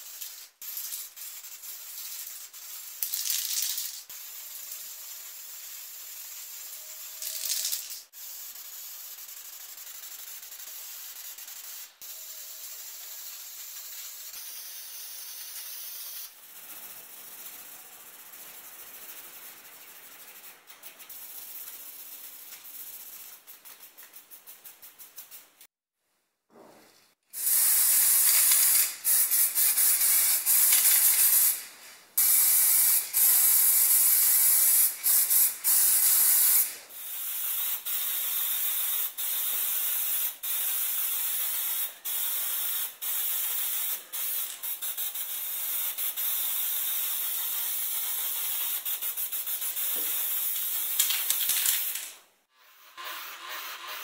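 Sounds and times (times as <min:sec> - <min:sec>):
spray paint hissing: 0:00.0 - 0:25.7, 0:27.3 - 0:54.0.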